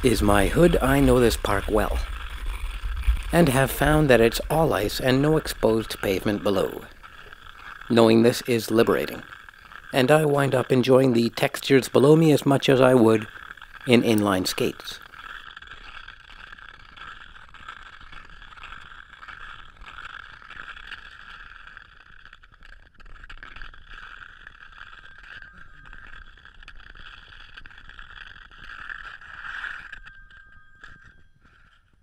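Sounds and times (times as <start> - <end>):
ice skate blades scraping: 0.0 - 32.0.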